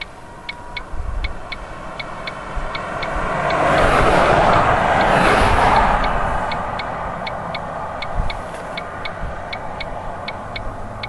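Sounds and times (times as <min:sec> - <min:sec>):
low steady rumble: 0:00.0 - 0:11.0
rapid regular ticking: 0:00.0 - 0:11.0
rushing noise: 0:00.0 - 0:11.0.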